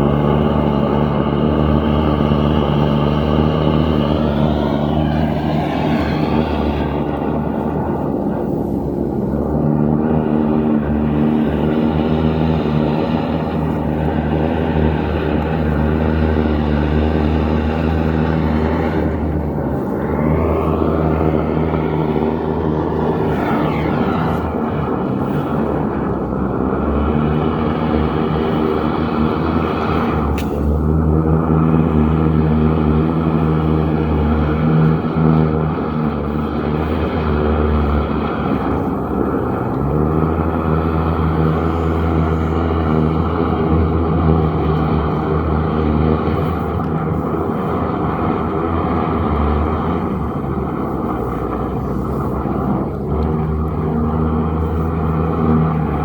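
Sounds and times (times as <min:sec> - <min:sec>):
water blasting through pipe: 0:00.0 - 0:40.1, 0:41.0 - 0:56.0
engine-driven pump droning: 0:00.0 - 0:56.0.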